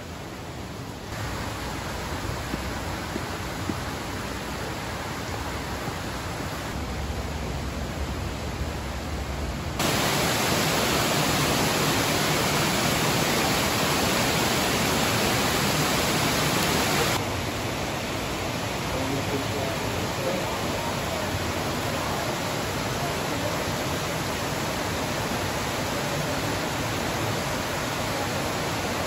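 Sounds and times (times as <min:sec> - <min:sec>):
water rushing over rocks: 0:00.1 - 0:08.8, 0:09.8 - 0:29.0.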